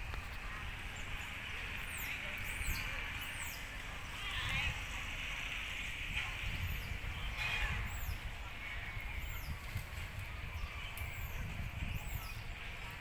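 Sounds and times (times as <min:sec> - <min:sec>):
low rumble on microphone: 0:00.0 - 0:13.0.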